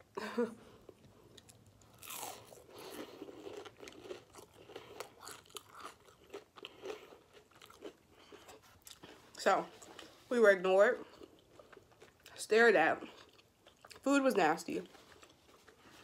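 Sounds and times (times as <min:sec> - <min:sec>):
crunchy chewing: 0:00.9 - 0:10.2, 0:11.0 - 0:12.4, 0:13.0 - 0:14.1, 0:14.8 - 0:16.0.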